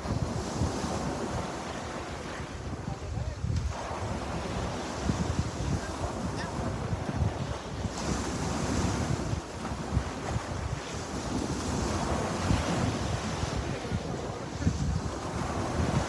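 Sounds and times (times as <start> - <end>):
sea surf washing onto shore: 0.0 - 16.0
wind buffeting microphone: 0.0 - 16.0.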